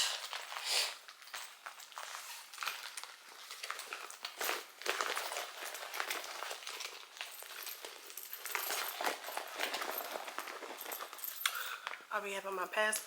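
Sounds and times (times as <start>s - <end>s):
rustling in a handbag: 0.0s - 13.0s
small items clicking and clinking: 0.0s - 13.0s.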